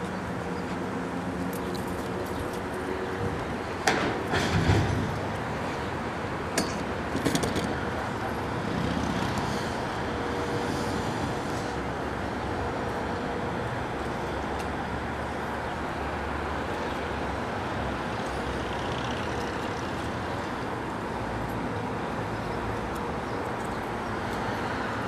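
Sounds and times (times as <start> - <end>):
streetcar wheels and motor running: 0.0 - 25.0.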